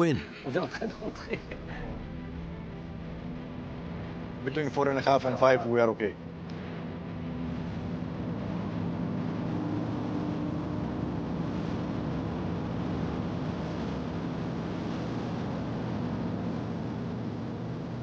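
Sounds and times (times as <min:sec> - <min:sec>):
even rushing noise: 0:00.0 - 0:18.0
low engine hum: 0:00.7 - 0:18.0.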